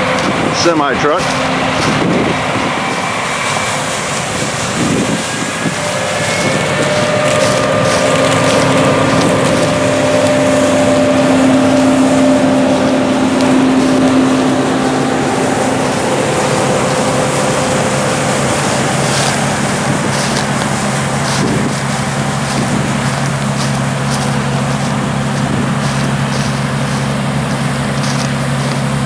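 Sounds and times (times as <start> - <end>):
heavy diesel engines running: 0.0 - 29.0.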